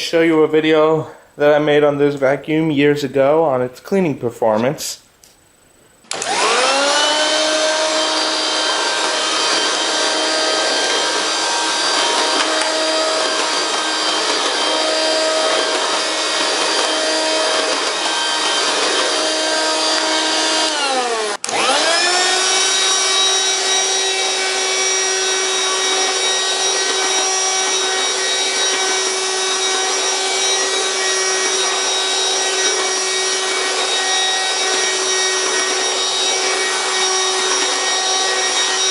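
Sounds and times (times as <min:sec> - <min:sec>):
vacuum cleaner motor whine: 0:05.5 - 0:38.9.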